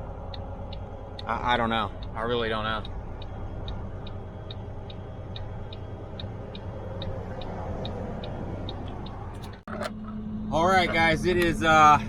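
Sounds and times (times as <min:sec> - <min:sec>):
light regular ticking: 0:00.0 - 0:10.1
diesel truck engine running: 0:00.0 - 0:12.0.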